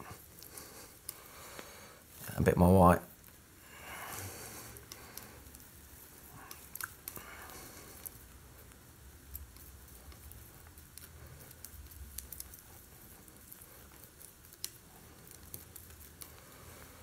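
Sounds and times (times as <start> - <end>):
palette knife mixing thick paint: 2.0 - 17.0.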